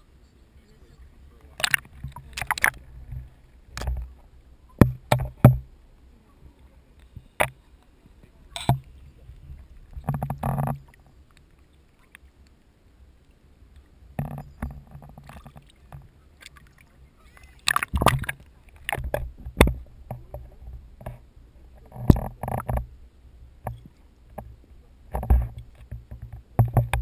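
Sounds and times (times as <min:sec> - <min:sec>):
water gurgling sloshes: 0:00.0 - 0:27.0
water slapping against camera: 0:01.3 - 0:05.8, 0:06.5 - 0:12.6, 0:13.7 - 0:23.0, 0:23.6 - 0:27.0.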